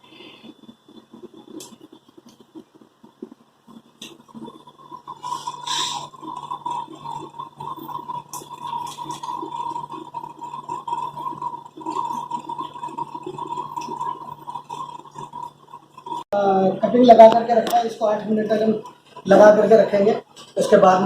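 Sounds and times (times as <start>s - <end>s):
steady buzzing hum: 0.0s - 21.0s.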